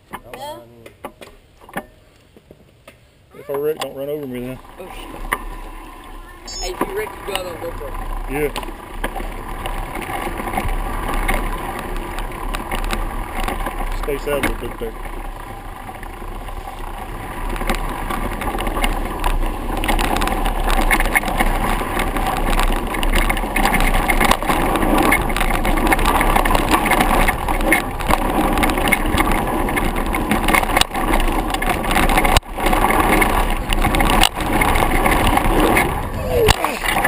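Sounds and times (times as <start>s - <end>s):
bike rattling over bumps: 0.0s - 37.0s
bike tyres rolling on dirt: 0.0s - 37.0s
wind noise on microphone: 4.6s - 37.0s.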